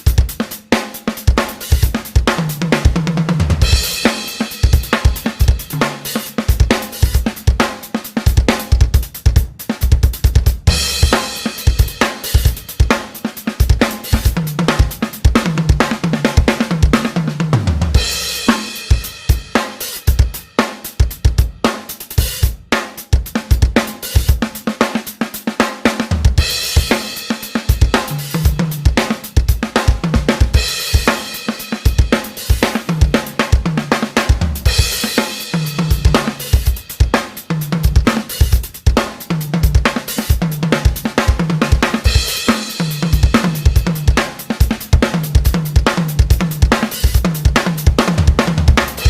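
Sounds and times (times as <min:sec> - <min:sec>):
drum groove: 0:00.0 - 0:49.0.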